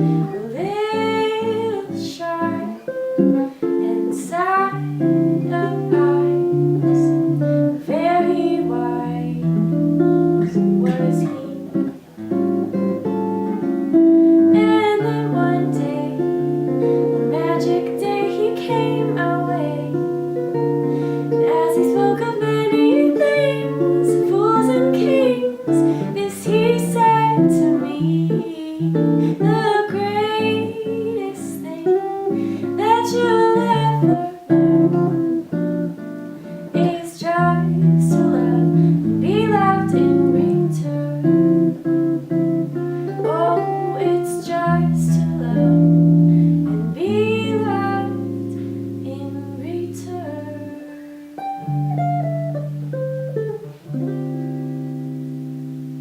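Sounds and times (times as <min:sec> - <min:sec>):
woman singing jazz ballad: 0:00.0 - 0:11.9, 0:13.6 - 0:54.4
guitar chords: 0:00.0 - 0:56.0.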